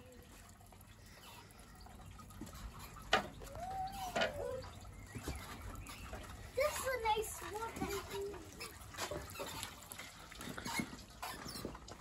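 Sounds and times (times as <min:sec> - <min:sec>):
water fountain bubbling and splashing: 0:00.0 - 0:12.0.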